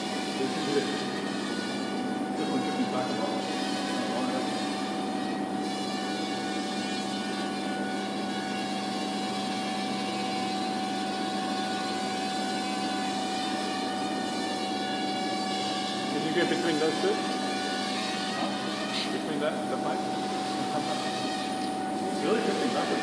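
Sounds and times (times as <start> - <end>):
drone buzzing whine: 0.0 - 23.0.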